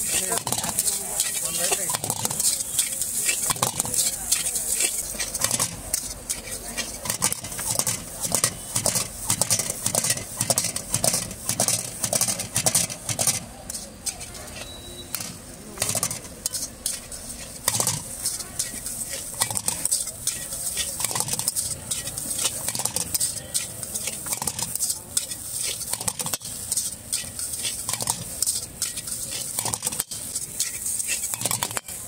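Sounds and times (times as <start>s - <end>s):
frying sizzle: 0.0s - 32.0s
spatula scraping metal wok: 0.0s - 32.0s.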